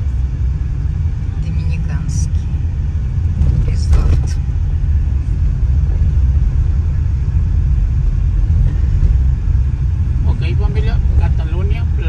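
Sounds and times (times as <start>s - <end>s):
car cabin rumble while driving: 0.0s - 12.0s.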